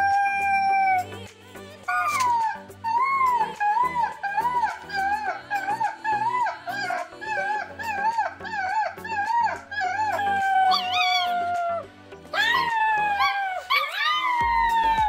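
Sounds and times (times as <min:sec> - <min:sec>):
puppy whining and howling: 0:00.0 - 0:01.1, 0:01.8 - 0:15.0.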